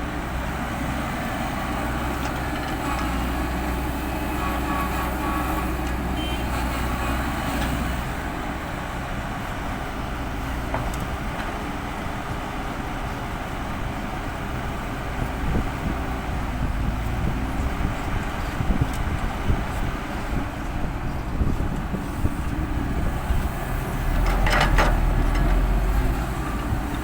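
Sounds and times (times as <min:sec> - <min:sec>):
heavy diesel engines running: 0:00.0 - 0:27.0.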